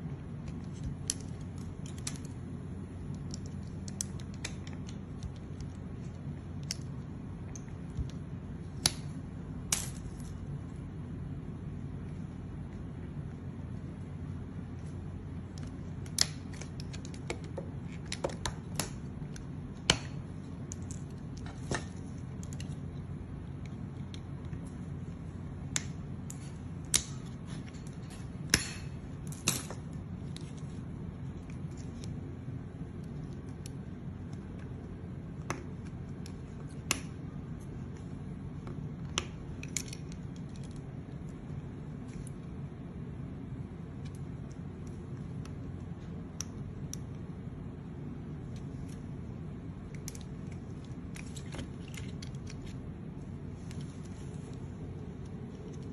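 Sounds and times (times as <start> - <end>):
low hum: 0.0 - 55.9.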